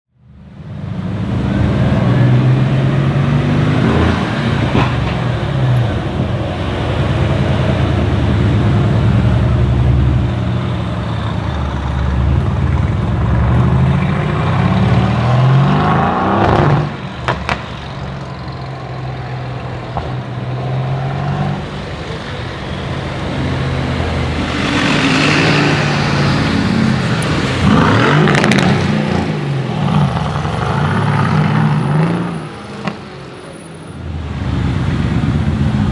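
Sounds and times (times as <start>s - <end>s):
loud car exhaust revving: 1.3s - 17.7s, 19.0s - 33.0s.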